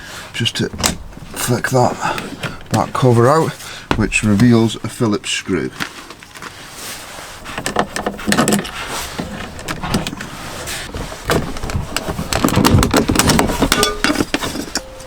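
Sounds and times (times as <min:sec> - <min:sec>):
hand tools and plastic trim rattling: 0:00.0 - 0:15.0.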